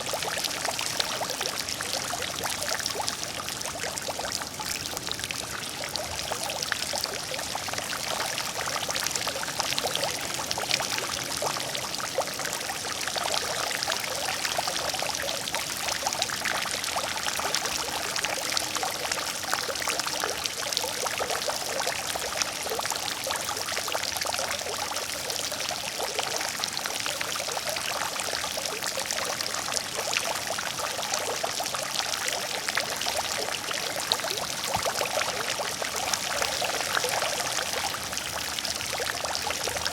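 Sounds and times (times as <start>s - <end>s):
water fountain splashing: 0.0s - 39.9s.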